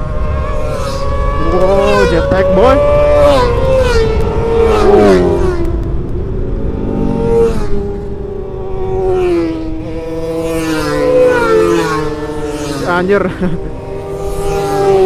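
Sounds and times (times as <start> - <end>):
motorcycles passing at high revs: 0.0 - 15.0.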